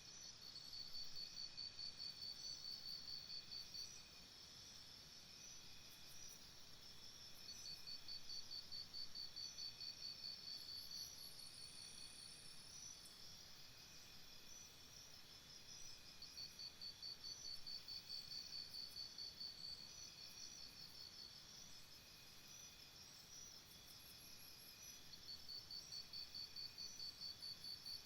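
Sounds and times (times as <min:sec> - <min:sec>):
insects chirping: 0:00.1 - 0:28.0.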